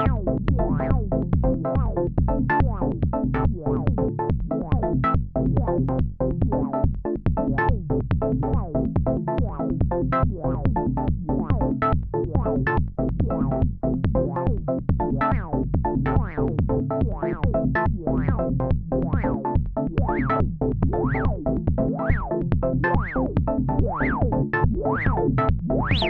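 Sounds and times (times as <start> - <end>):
synthesizer plucky sequenced notes: 0.0 - 26.0.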